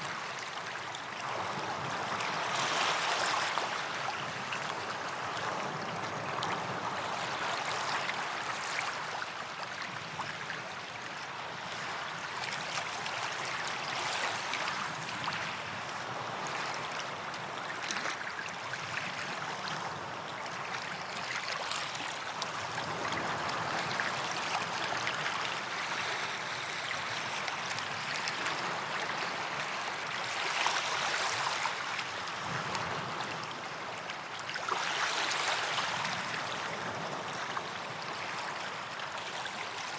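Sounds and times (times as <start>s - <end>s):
small waves washing onto beach: 0.0s - 39.9s.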